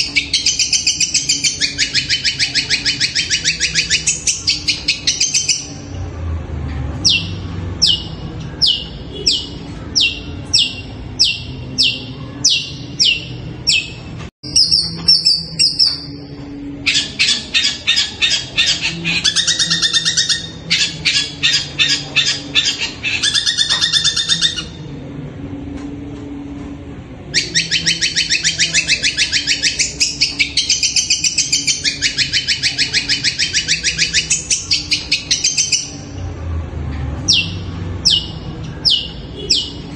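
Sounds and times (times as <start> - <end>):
shrike singing: 0.0 - 6.0, 7.0 - 25.0, 27.2 - 36.4, 37.2 - 39.9.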